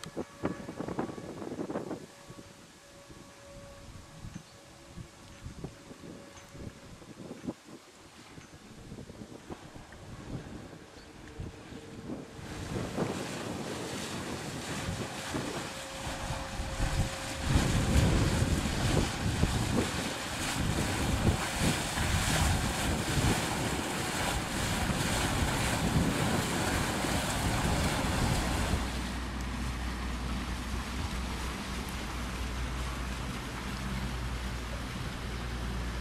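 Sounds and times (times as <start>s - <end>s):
gusty wind on microphone: 0.0s - 29.8s
water churning from motor boat: 0.0s - 36.0s.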